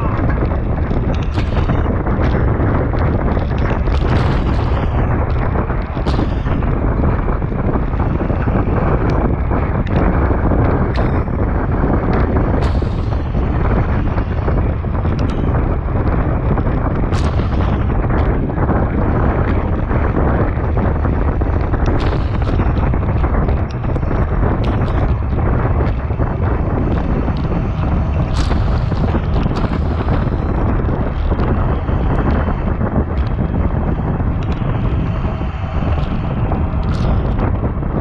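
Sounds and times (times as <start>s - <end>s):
sharp clicks and knocks: 0.0s - 38.0s
wind buffeting microphone: 0.0s - 38.0s.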